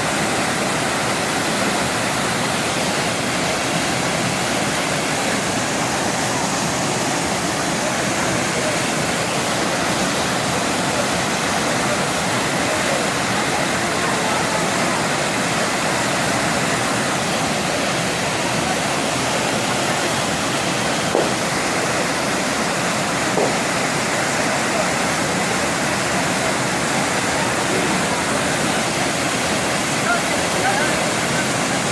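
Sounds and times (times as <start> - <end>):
rushing water: 0.0 - 31.9.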